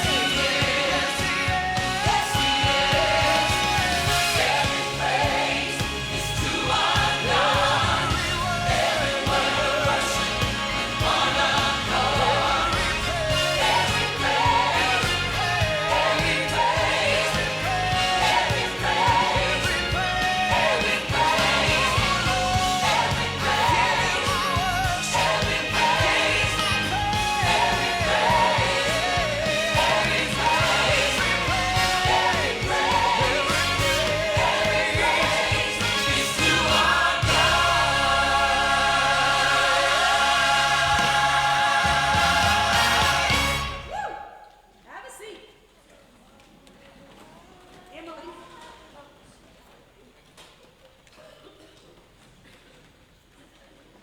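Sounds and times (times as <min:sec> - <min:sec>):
sustained instrumental chords: 0:00.0 - 0:44.0.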